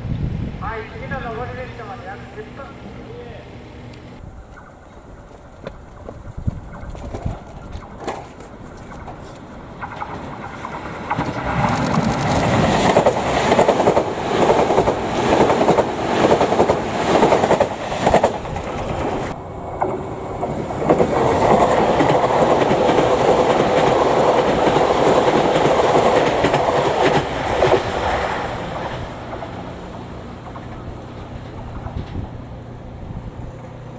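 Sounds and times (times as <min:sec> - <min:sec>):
train rolling rumble with tone: 0:00.0 - 0:33.9
train wheels clattering over joints: 0:04.4 - 0:32.8.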